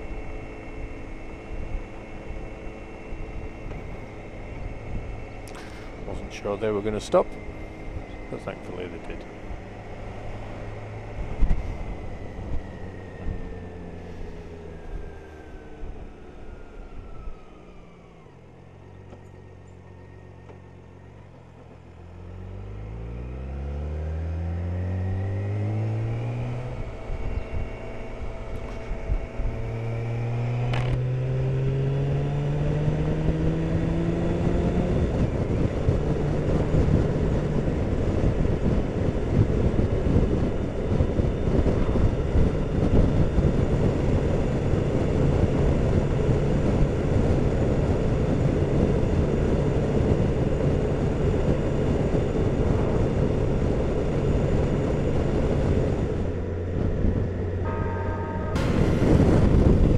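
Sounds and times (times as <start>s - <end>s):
motorcycle engine: 0.0s - 17.3s, 18.8s - 59.9s
wind noise: 1.5s - 17.4s, 24.9s - 59.9s.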